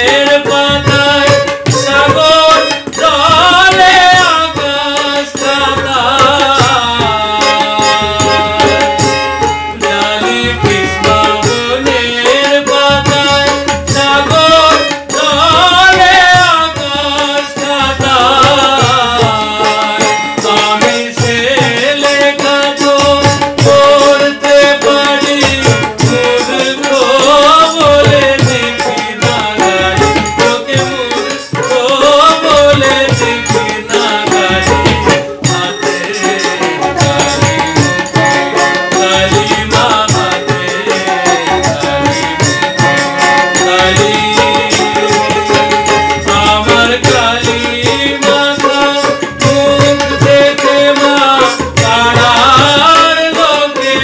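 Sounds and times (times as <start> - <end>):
hand percussion beat: 0.0 - 54.0
man singing devotional song: 0.0 - 54.0.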